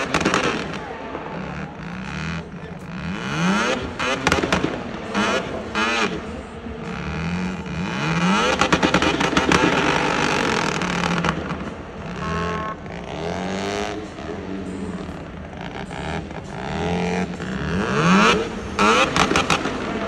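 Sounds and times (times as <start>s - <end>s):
engine revving hard: 0.0s - 20.0s
exhaust crackling: 0.0s - 20.0s.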